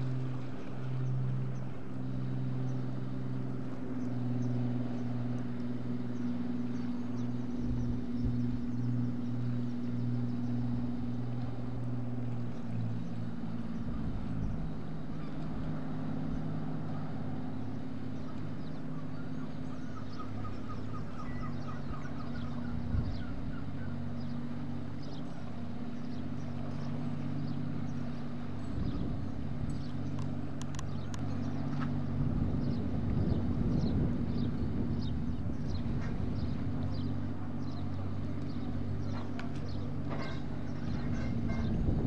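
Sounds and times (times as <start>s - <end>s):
boat diesel engines droning: 0.0s - 42.0s
bird calling: 0.1s - 42.0s.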